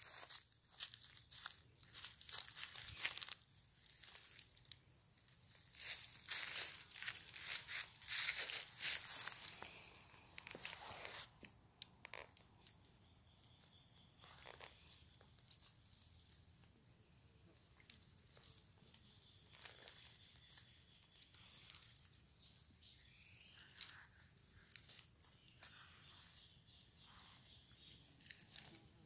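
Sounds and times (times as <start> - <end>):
rustling of dry leaf litter: 0.0 - 29.0.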